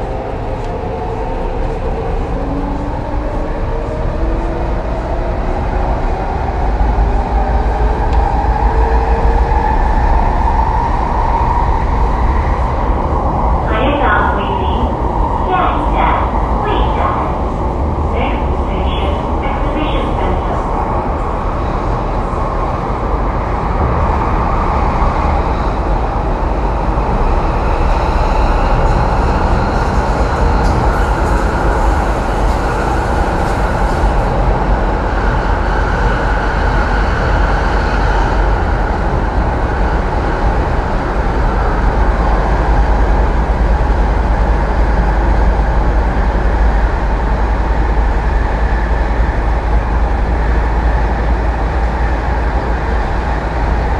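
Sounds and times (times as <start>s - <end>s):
train wheels rumbling in tunnel: 0.0s - 53.9s.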